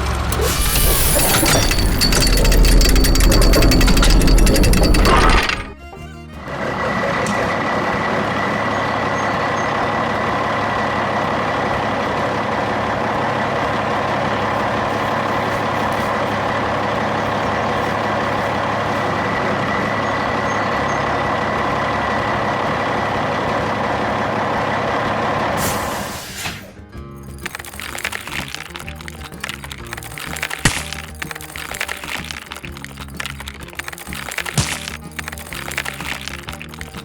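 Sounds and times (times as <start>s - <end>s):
truck engine running: 0.0s - 26.2s, 27.1s - 37.0s.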